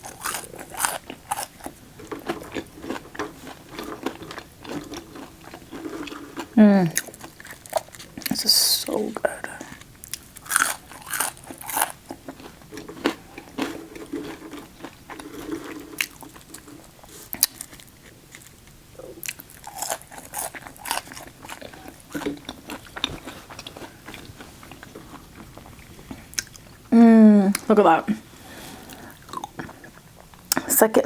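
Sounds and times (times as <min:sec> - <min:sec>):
chewing and crunching: 0:00.0 - 0:26.9, 0:28.5 - 0:30.7.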